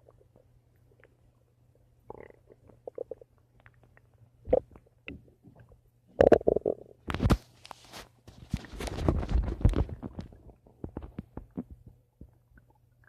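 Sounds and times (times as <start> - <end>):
stomach gurgling: 0.0 - 7.4, 8.5 - 13.0.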